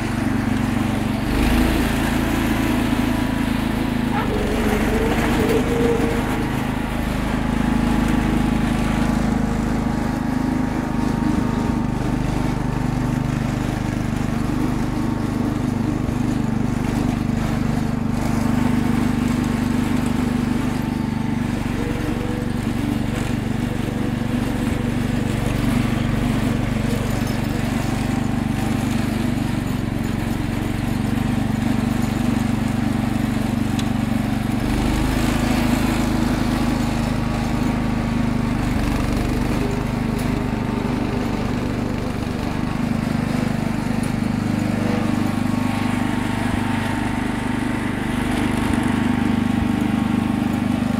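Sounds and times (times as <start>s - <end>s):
garden tractor engine under load: 0.0s - 50.9s
plow blade pushing wet snow: 0.0s - 50.9s.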